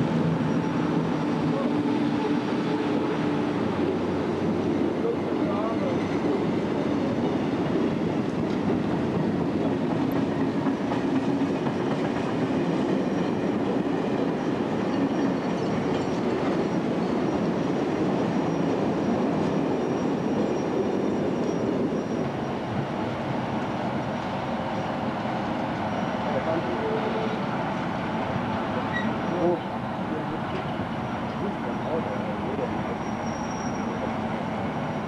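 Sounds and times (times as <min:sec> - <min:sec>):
steel wheels rumbling on rails: 0:00.0 - 0:35.0.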